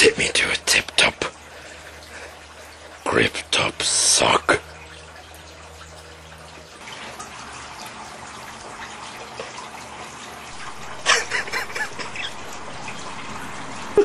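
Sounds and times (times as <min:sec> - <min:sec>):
running water trickling: 0:00.0 - 0:14.0.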